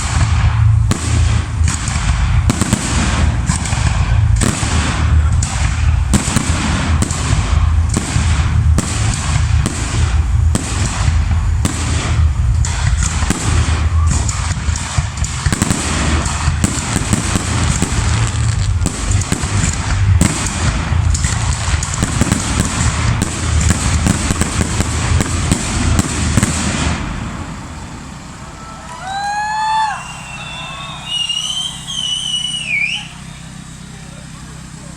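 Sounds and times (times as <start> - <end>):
deep fireworks booms: 0.0 - 34.9
fireworks bangs and crackles: 0.0 - 34.9.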